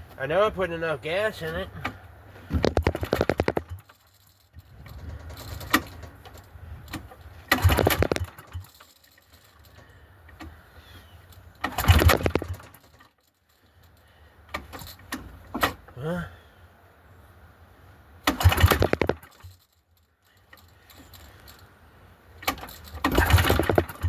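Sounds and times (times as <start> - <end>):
generator engine pull-start cranking: 1.8 - 15.9, 18.2 - 21.7, 22.4 - 24.0.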